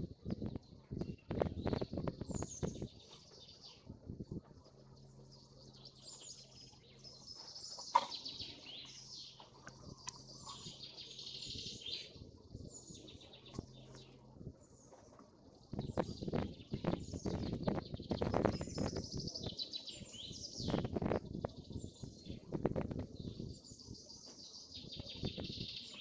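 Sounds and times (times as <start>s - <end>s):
faint low hum: 0.0s - 26.0s
songbirds chirping: 0.0s - 26.0s.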